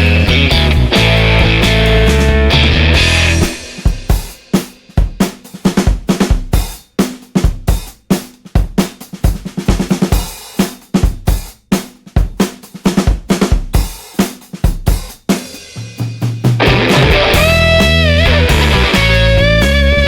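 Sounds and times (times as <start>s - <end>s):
rock drum kit beat: 0.0s - 20.0s.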